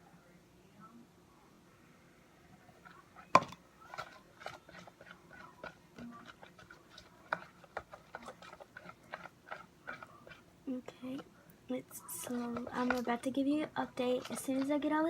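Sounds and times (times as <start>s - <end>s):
spoon stirring wet slime: 2.7s - 15.0s.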